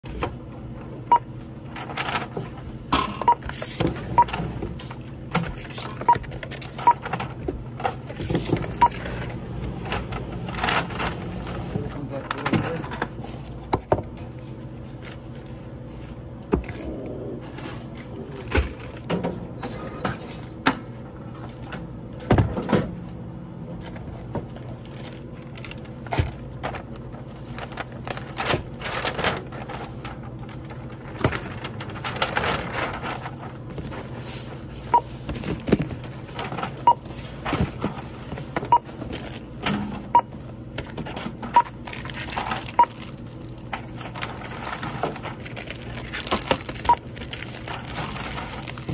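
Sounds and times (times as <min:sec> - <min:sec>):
paper bags rustling: 0:00.1 - 0:19.1, 0:23.8 - 0:48.9.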